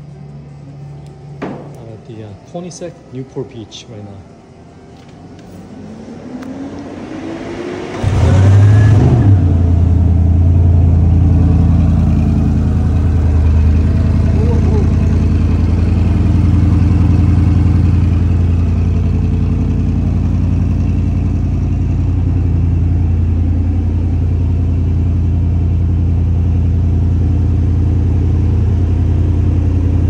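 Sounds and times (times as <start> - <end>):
car engine idling: 0.0 - 7.1, 7.8 - 30.0.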